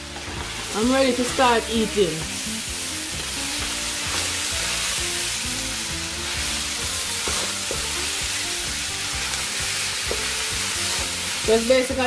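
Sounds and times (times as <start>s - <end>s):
background music: 0.0s - 12.0s
food sizzling in a pan: 0.0s - 12.0s.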